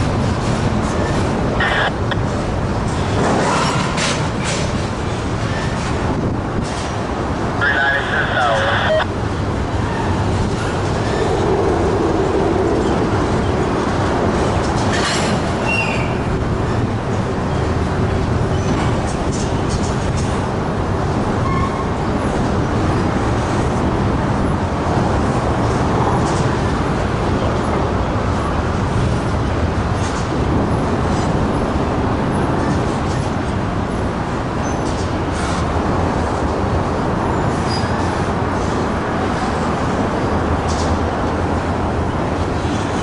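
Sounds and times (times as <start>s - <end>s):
freight train rumbling on rails: 0.0s - 43.0s.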